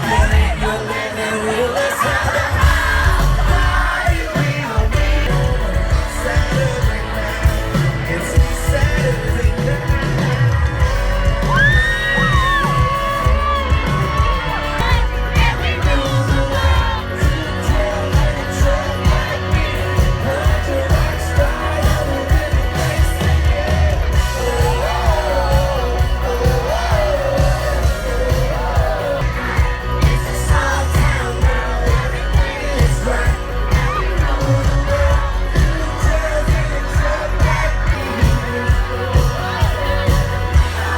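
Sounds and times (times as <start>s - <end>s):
crowd yelling: 0.0s - 40.9s
loud music with singer: 0.0s - 40.9s.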